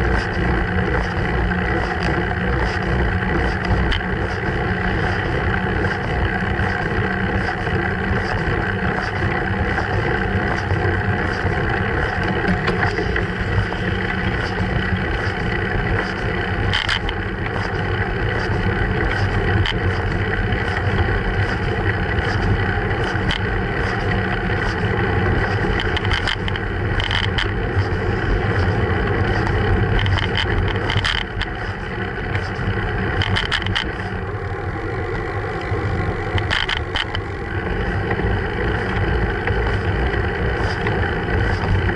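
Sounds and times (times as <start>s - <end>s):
wind and road noise rumble: 0.0s - 41.9s.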